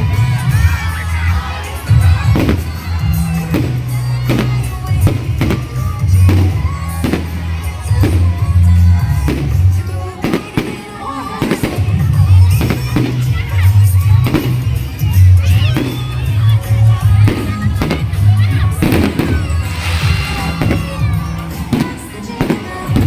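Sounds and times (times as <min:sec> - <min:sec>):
loud music with heavy bass: 0:00.0 - 0:10.4, 0:11.4 - 0:23.0
fireworks bangs: 0:00.0 - 0:16.4, 0:17.0 - 0:23.0
crowd voices: 0:00.0 - 0:23.0.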